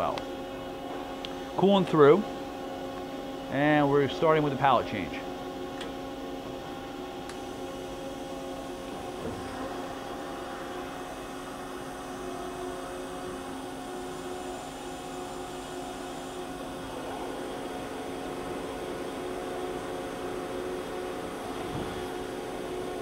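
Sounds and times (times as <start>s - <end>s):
machine humming with steady tones: 0.0s - 23.0s.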